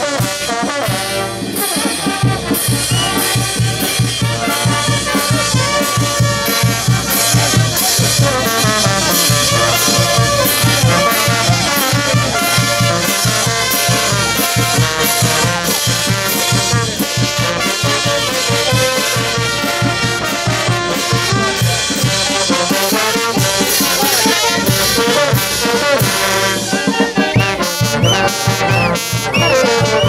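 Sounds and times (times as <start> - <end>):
brass band playing dance tune: 0.0 - 30.0.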